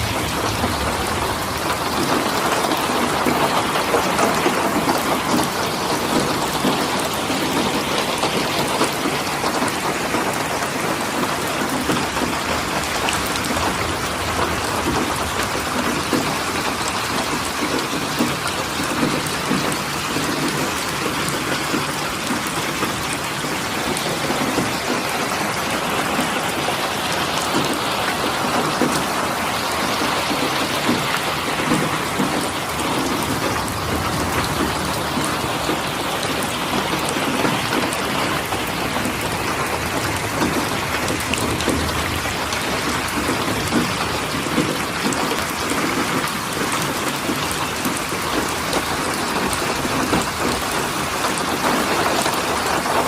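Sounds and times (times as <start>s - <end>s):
rain on hard surface: 0.0s - 53.0s.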